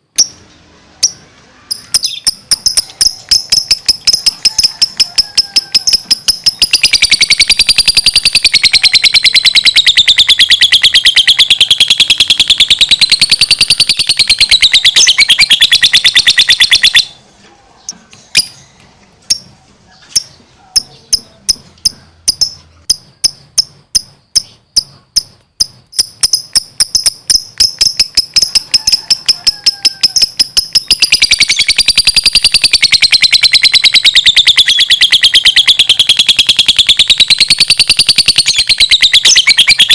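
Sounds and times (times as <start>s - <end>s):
lovebird chattering trill: 1.0s - 17.2s, 19.3s - 39.9s.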